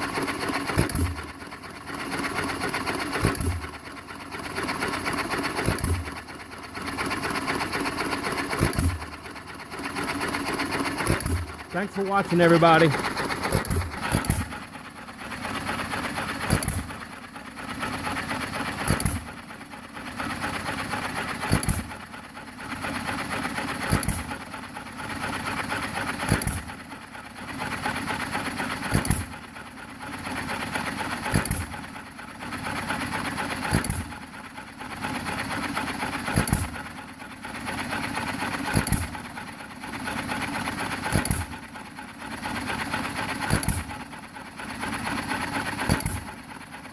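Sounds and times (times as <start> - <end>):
engine firing with sharp bangs: 0.0 - 46.9.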